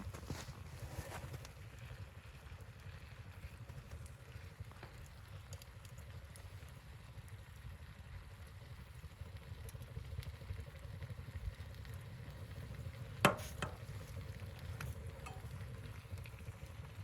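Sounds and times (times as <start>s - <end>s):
low rumble of wind: 0.0s - 17.0s.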